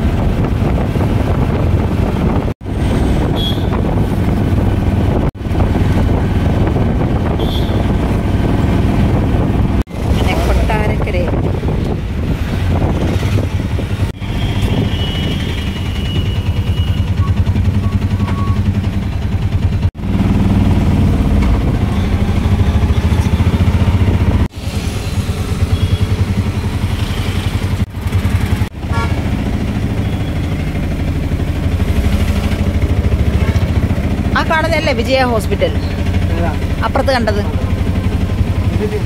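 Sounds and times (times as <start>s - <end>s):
auto-rickshaw engine rumbling: 0.0s - 39.0s.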